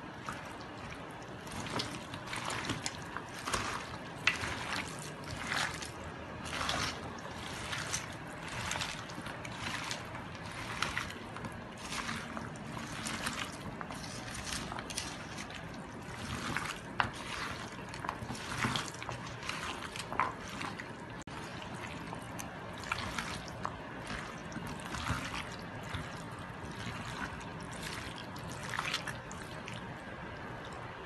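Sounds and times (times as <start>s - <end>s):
hands mixing wet food: 0.0s - 31.0s.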